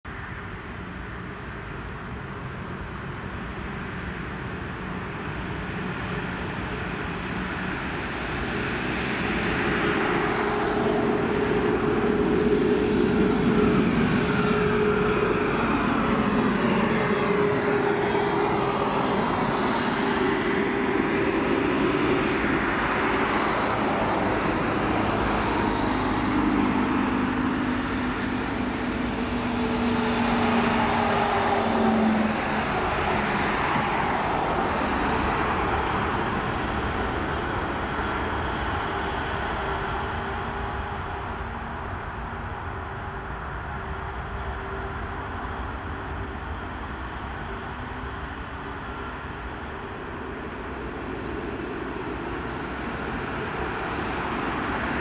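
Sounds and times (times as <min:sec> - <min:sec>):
jet airliner passing: 0:00.1 - 0:55.0.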